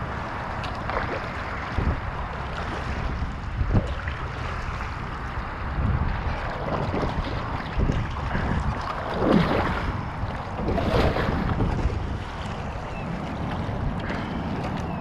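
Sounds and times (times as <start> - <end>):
loud water splashes: 0.0 - 15.0
whitewater rushing around kayak: 0.0 - 15.0
wind noise on microphone: 0.0 - 15.0.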